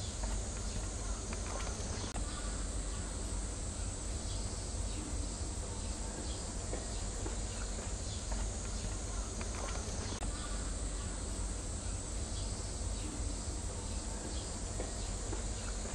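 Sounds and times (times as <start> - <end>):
outdoor background noise: 0.0 - 15.9.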